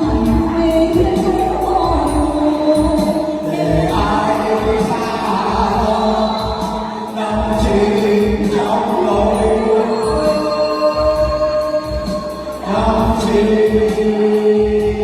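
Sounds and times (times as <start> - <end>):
slow song with singing: 0.0 - 15.0.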